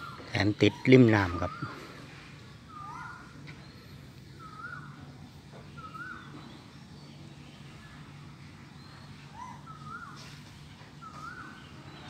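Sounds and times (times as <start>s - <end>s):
swooping whistled bird call: 0.0s - 6.7s, 8.8s - 12.0s
high bird chirps: 0.0s - 7.8s, 8.8s - 12.0s
steady low hum: 0.0s - 12.0s.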